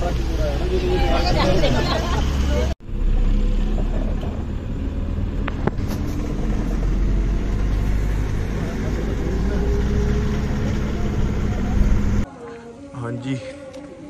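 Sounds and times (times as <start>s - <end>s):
car engine and road noise: 0.0s - 12.3s.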